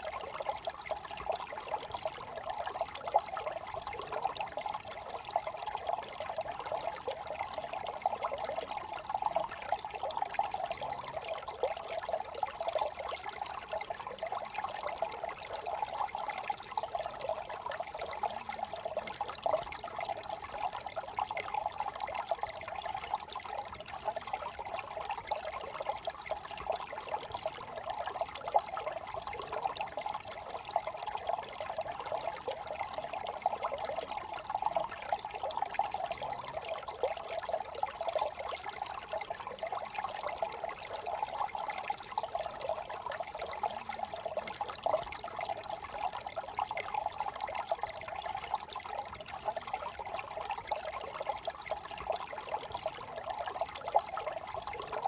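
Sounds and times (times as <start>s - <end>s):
brook trickling: 0.0s - 55.0s.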